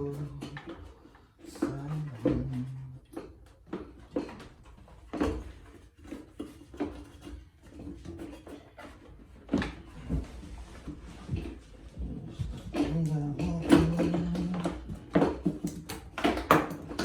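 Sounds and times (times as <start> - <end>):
tools and parts clattering: 0.0 - 17.0.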